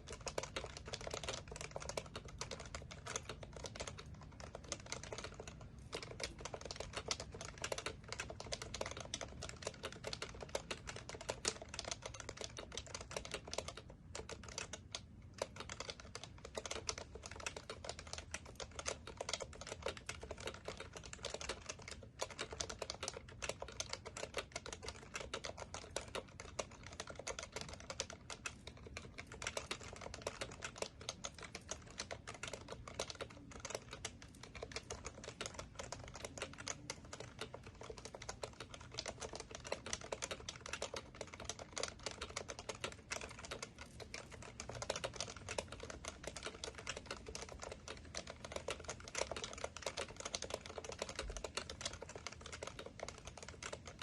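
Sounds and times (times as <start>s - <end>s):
continuous keyboard typing: 0.0s - 54.0s.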